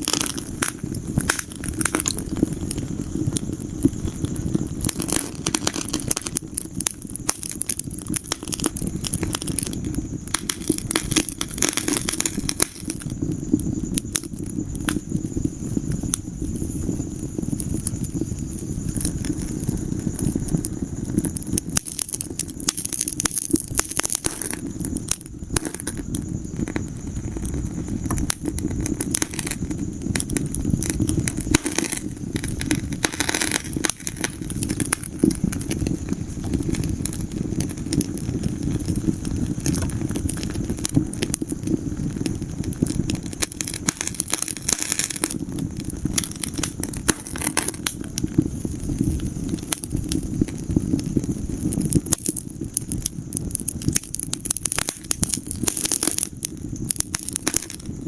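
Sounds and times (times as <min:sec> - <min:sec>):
fire crackling and snapping: 0:00.0 - 0:58.0
low rumble of flames: 0:00.0 - 0:58.0.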